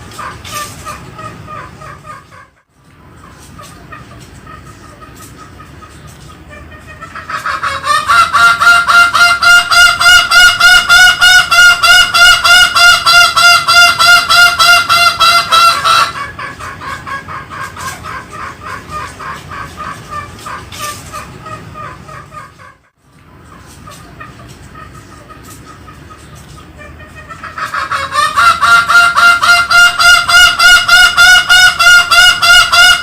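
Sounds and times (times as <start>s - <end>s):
junglefowl rapid calls: 0.0s - 33.0s.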